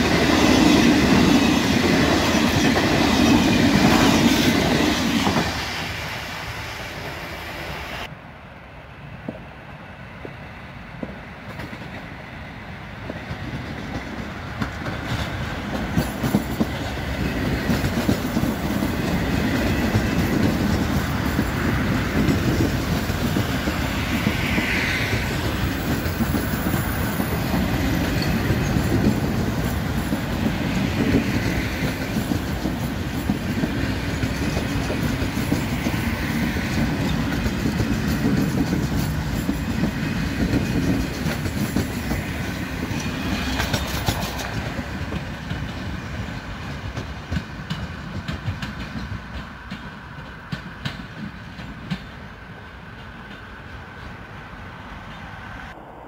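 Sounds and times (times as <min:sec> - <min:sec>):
train wheels clattering: 0:00.0 - 0:05.9, 0:13.0 - 0:52.3.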